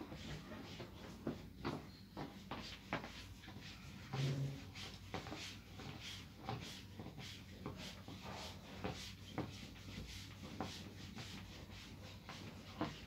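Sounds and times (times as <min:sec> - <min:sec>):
fabric rustling and rubbing: 0:02.5 - 0:13.0.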